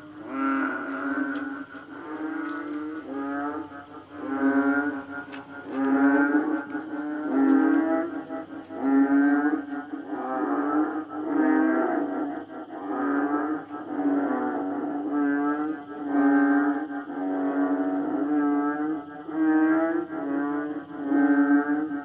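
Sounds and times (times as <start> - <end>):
frogs calling in chorus: 0.0 - 22.0.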